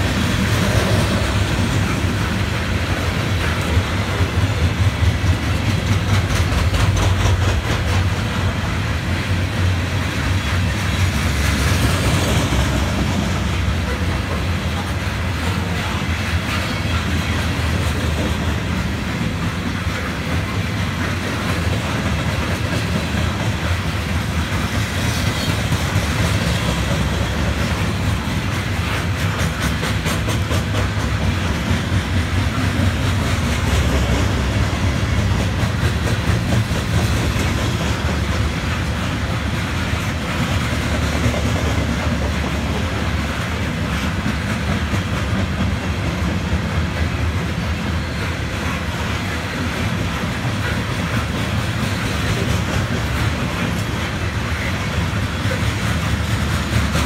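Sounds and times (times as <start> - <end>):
train rumbling past: 0.0 - 57.0
wheels clacking over rail joints: 0.0 - 57.0.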